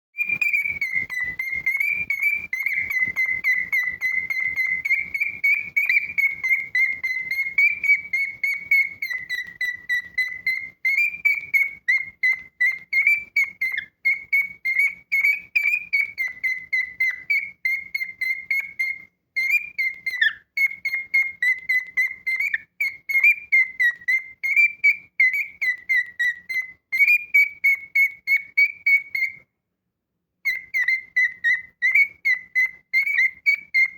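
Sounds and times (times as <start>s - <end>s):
cockatiel whistling: 0.1s - 29.5s, 30.4s - 33.9s.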